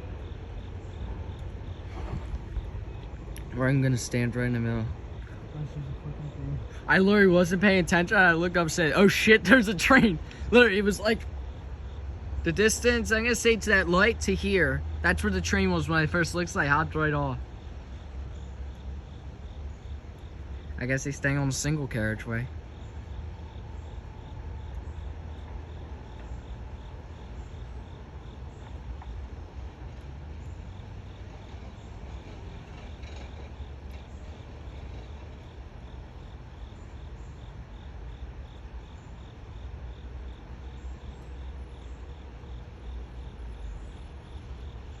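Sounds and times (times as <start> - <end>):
continuous low rumble: 0.0 - 45.0
insects chirping: 0.0 - 45.0.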